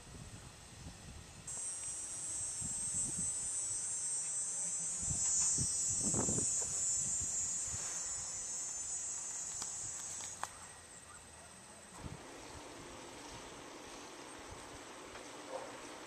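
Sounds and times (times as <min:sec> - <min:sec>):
insects buzzing: 0:01.5 - 0:16.0.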